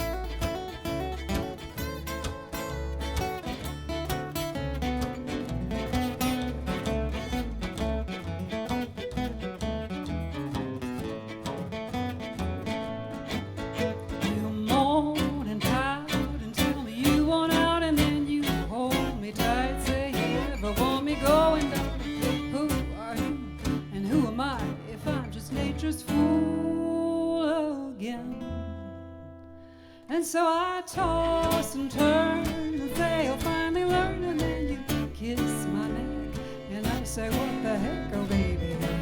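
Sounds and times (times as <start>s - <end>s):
acoustic guitar strumming chords: 0.0s - 27.1s, 30.9s - 39.0s
bass line: 0.0s - 27.2s, 31.0s - 39.0s.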